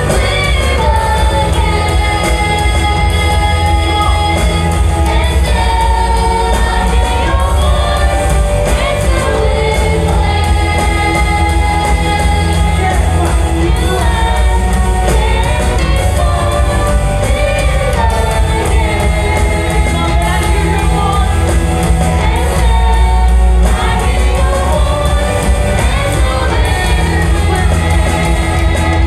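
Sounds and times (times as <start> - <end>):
heavy bass: 0.0 - 29.0
voices singing: 0.0 - 29.0
worship band playing: 0.0 - 29.0.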